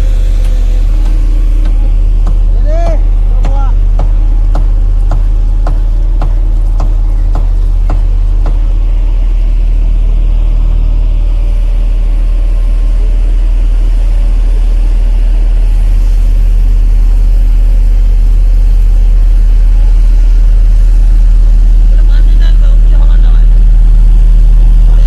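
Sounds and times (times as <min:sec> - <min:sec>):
roller diesel engine droning: 0:00.0 - 0:25.0.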